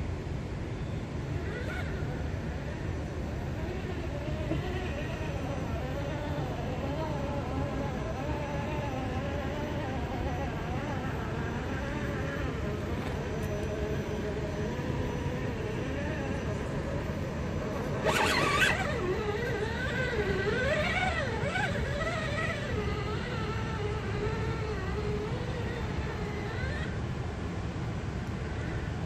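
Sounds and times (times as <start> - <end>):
rc car motor whine: 0.6 - 29.0.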